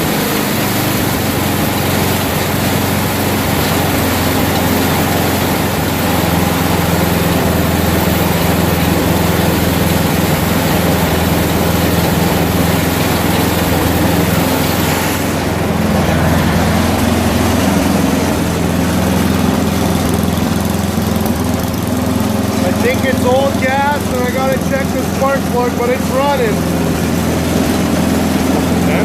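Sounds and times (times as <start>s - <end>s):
snowblower engine running: 0.0s - 29.0s.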